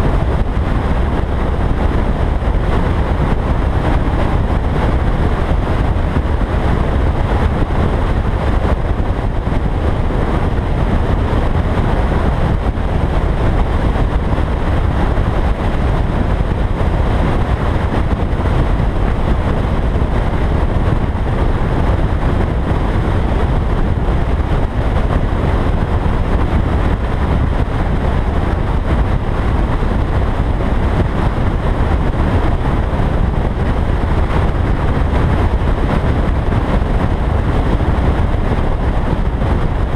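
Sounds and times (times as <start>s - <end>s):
wind buffeting and road noise: 0.0s - 39.9s.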